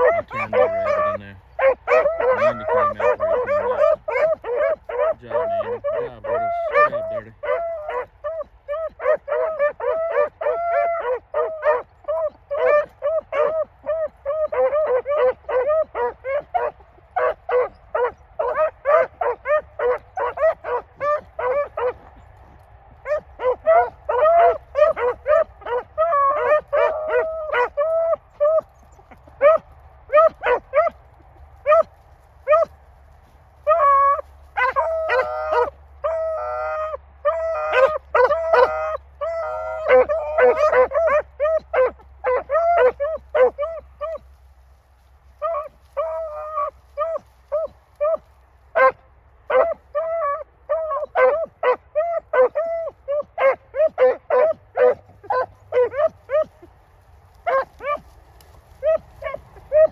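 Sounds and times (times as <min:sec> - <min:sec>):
dogs barking: 0:00.0 - 0:32.8, 0:33.6 - 0:44.3, 0:45.3 - 0:59.9.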